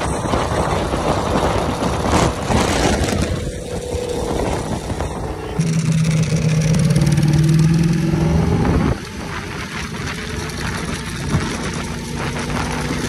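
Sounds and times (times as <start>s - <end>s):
motorcycle engine pulling: 0.0s - 13.0s
rough quieter engine: 0.0s - 13.0s.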